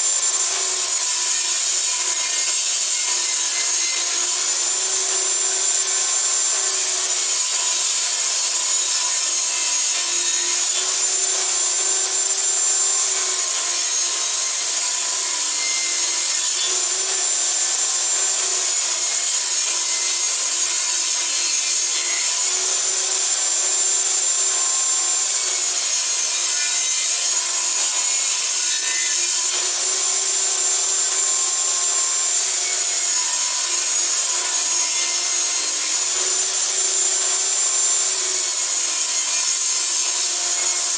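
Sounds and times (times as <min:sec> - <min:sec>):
table saw ripping wood: 0:00.0 - 0:23.0, 0:24.6 - 0:40.9.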